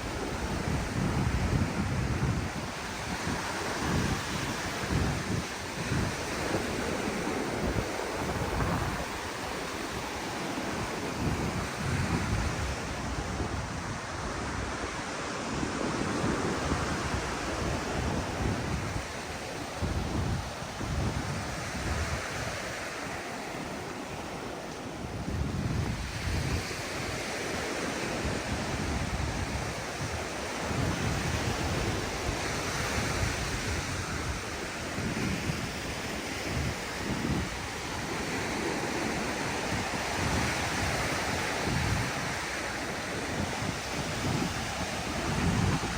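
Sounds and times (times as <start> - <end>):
ocean surf on sandy beach: 0.0 - 45.9
wind buffeting microphone: 0.0 - 45.9.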